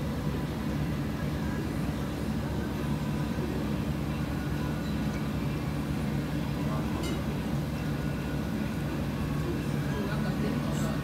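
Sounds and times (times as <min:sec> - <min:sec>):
low background hum: 0:00.0 - 0:11.0
faint murmur of voices: 0:00.9 - 0:11.0.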